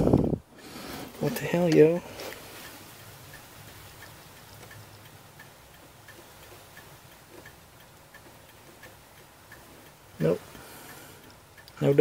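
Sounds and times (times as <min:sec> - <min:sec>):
turn signal ticking: 0:00.0 - 0:12.0.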